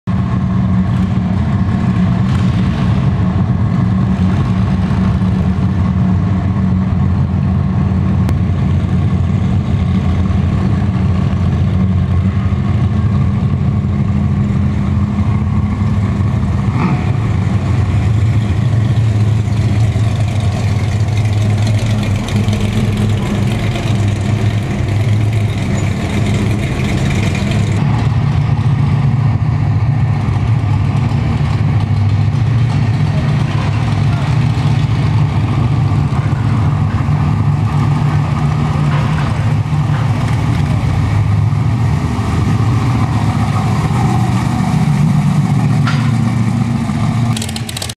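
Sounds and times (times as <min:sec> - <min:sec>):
race car engine idling: 0:00.1 - 0:47.9.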